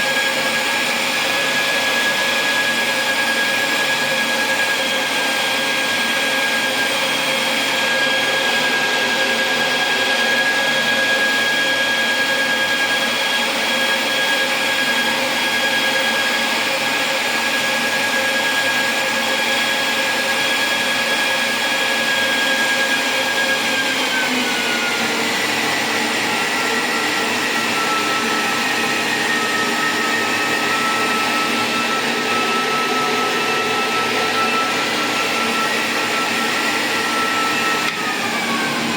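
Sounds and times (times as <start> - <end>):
cooling fan whirring and whining: 0.0 - 38.9.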